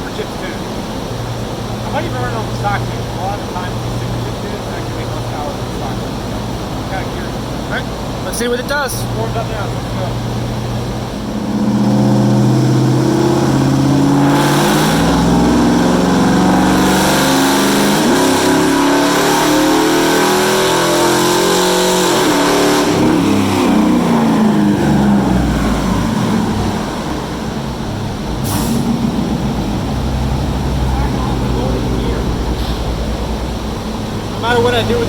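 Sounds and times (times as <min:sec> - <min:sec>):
pickup engine revving at full throttle: 0:00.0 - 0:35.0.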